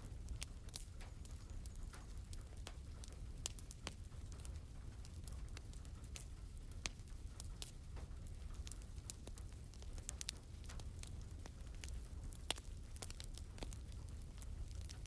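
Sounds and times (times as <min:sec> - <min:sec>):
soft rain patter: 0:00.0 - 0:15.0
wood fire crackling: 0:00.0 - 0:15.0.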